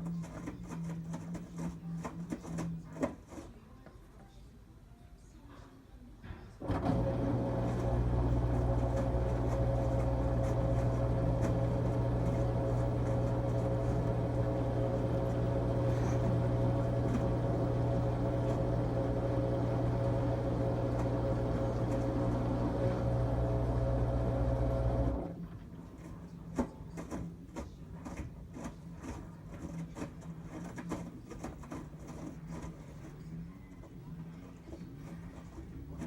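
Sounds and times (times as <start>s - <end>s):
washing machine hum: 0.0s - 3.5s, 6.6s - 36.0s.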